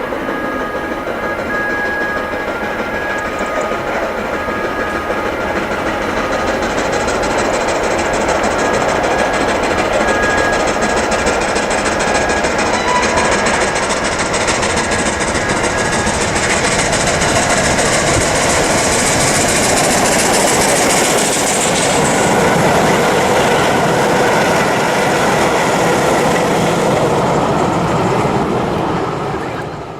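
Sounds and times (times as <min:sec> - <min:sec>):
train wheels clattering on rails: 0:00.0 - 0:29.9.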